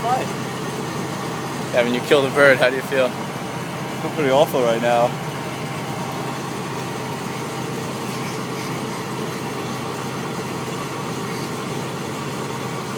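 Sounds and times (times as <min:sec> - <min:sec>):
bus engine humming: 0:00.0 - 0:12.9.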